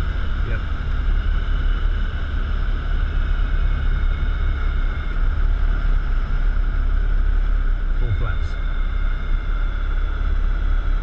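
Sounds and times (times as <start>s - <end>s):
aircraft engine idling: 0.0s - 11.0s
propeller high whine: 0.0s - 11.0s.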